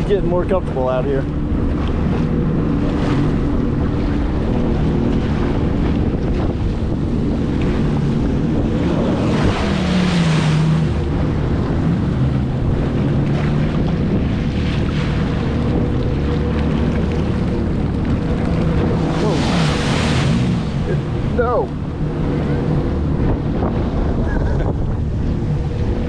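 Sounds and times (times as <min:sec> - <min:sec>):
jet ski engine running: 0:00.0 - 0:26.0
water splashing around hull: 0:00.0 - 0:26.0
wind buffeting the microphone: 0:00.0 - 0:26.0.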